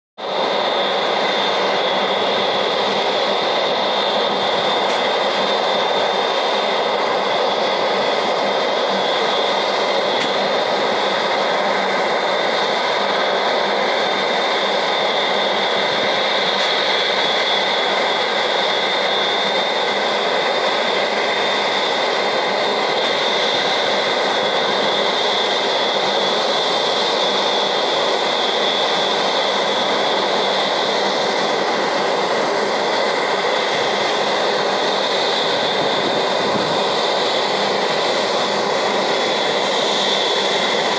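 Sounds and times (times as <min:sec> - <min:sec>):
jet engines whining: 0:00.2 - 0:40.9.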